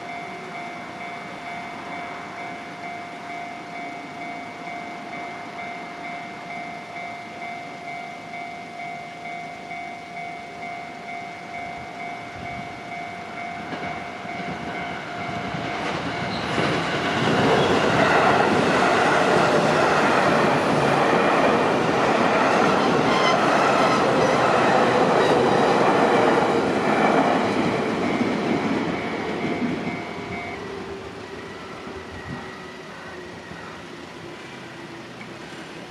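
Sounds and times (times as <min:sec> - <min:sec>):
level-crossing warning bell: 0:00.0 - 0:35.9
train wheels rumbling on rail: 0:00.0 - 0:35.9.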